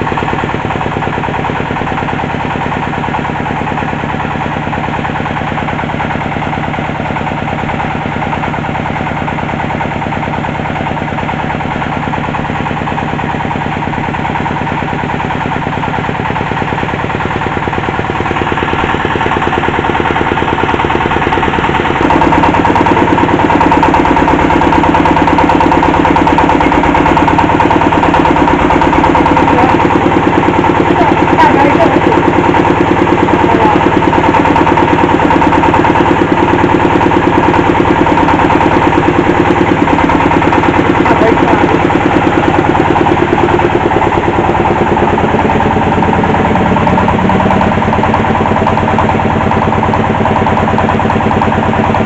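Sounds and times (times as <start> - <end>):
drilling rig engine running: 0.0 - 52.0.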